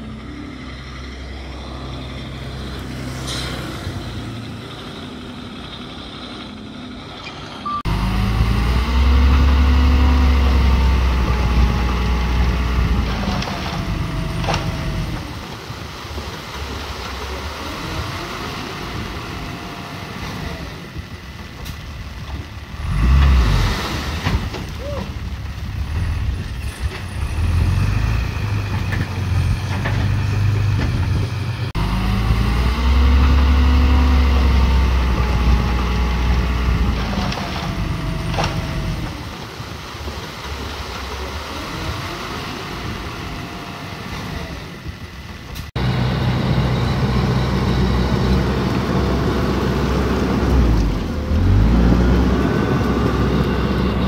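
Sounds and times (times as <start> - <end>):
bulldozer diesel engine running: 0.0 - 23.6, 24.4 - 54.0.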